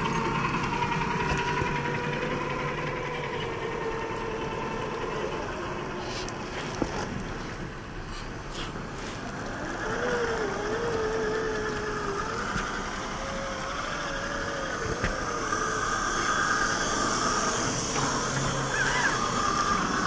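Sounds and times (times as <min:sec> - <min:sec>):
electric motor and gear whine: 0:00.0 - 0:20.0.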